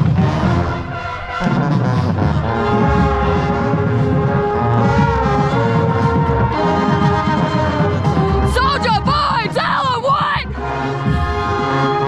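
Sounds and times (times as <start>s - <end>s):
marching band brass playing: 0.0s - 12.0s.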